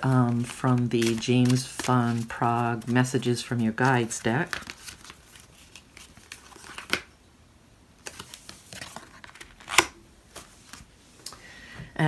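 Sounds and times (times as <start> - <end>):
cards rustling: 0.0 - 7.1, 8.0 - 10.9.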